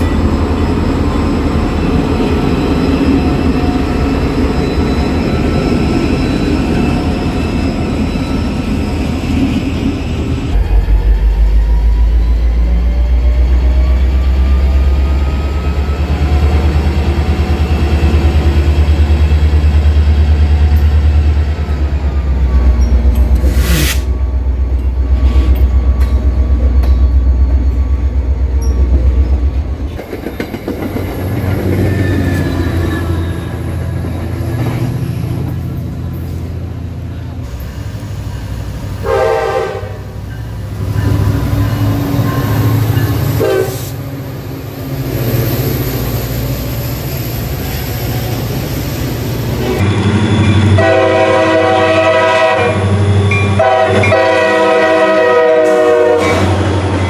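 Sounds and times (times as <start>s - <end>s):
distant train: 0.0s - 57.0s.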